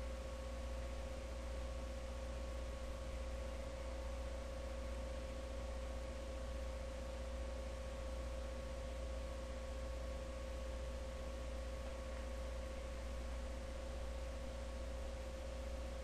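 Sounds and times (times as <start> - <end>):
electrical hum and hiss: 0.0 - 16.0
faint constant whine: 0.0 - 16.0.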